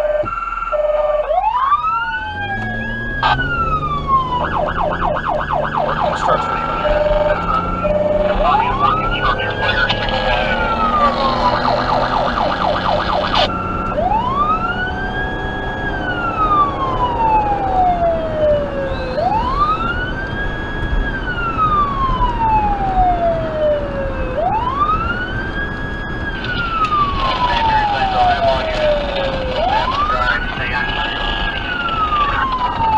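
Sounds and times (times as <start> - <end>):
electronic siren yelp and wail: 0.0 - 32.9.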